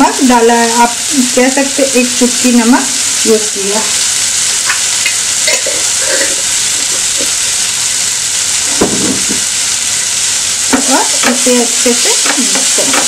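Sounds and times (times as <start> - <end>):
onions frying in a pan: 0.0 - 13.0.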